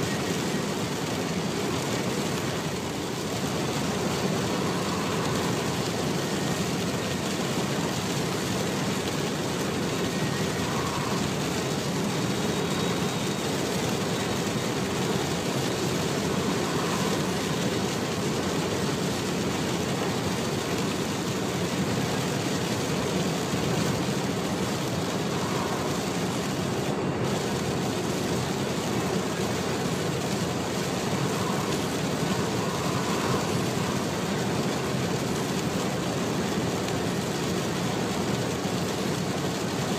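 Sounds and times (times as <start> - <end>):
engine drone: 0.0 - 39.9
rain: 0.0 - 39.9
tyres on wet road: 0.0 - 39.9.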